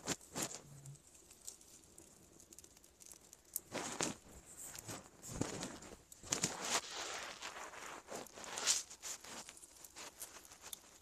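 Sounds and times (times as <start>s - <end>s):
sticks crackling in wood fire: 0.0s - 11.0s.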